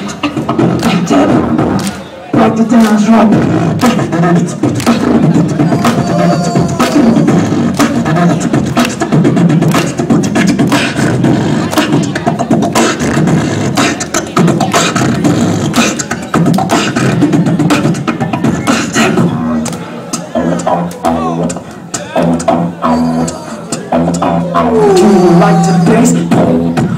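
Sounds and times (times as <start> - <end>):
beatboxing into microphone: 0.0 - 26.9.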